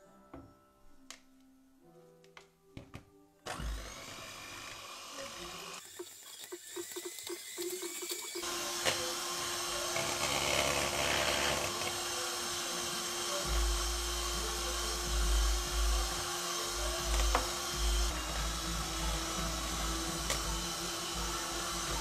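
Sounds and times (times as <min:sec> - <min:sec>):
electric hand mixer whisking eggs: 0:03.5 - 0:22.0.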